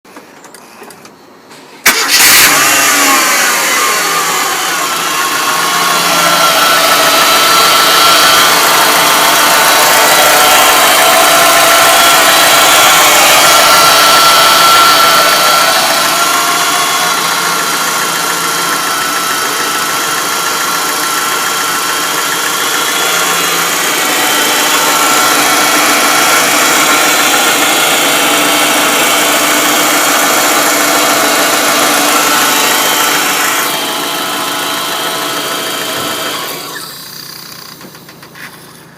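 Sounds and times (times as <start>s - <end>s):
steady whining tones: 1.9s - 38.2s
car engine running: 1.9s - 38.8s.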